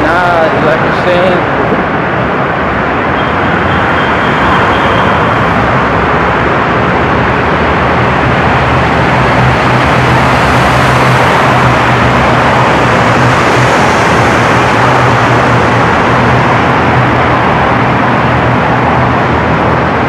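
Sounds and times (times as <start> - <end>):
low engine hum: 0.0 - 20.0
traffic rushing in a tunnel: 0.0 - 20.0.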